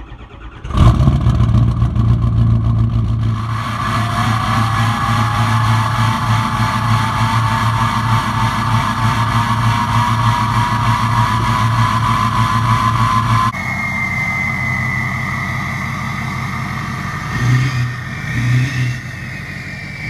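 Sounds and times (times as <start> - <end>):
diesel engine starting and idling: 0.0 - 20.0
faint whine rising in pitch: 3.1 - 20.0.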